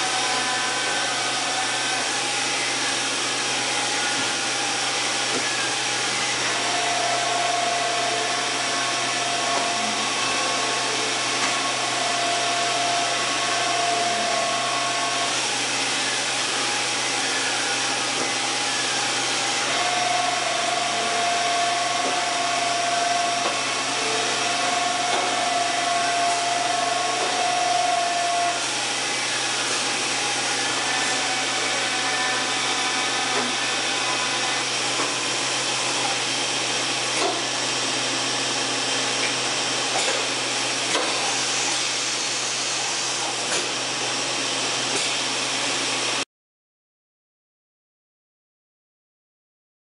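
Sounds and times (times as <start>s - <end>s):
axis drive whine: 0.0s - 46.2s.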